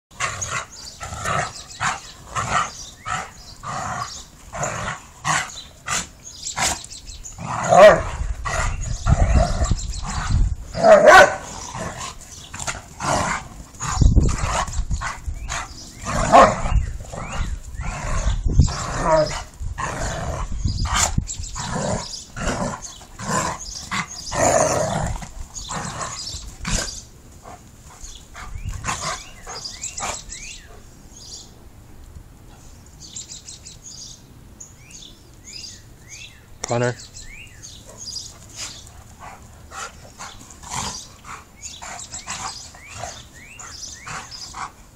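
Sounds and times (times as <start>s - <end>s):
dogs barking and growling: 0.1s - 30.9s, 37.7s - 44.9s.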